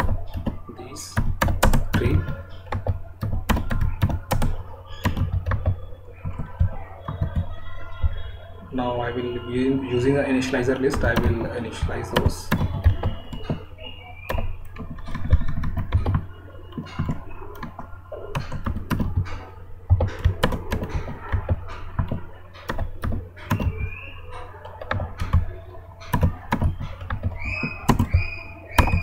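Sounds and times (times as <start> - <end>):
typing on computer keyboard: 0.0 - 7.6, 10.9 - 13.6, 14.3 - 29.0.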